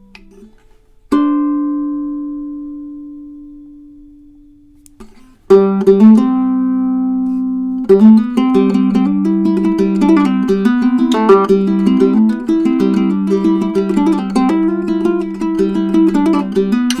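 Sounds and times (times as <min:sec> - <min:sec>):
ukulele notes plucked: 0:00.0 - 0:17.0.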